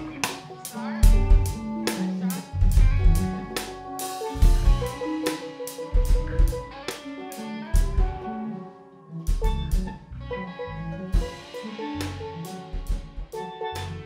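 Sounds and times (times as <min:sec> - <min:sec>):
drum kit kick and cymbal hits: 0:00.0 - 0:07.1, 0:07.8 - 0:08.3, 0:09.3 - 0:10.1, 0:11.1 - 0:14.0
band music: 0:00.0 - 0:14.0.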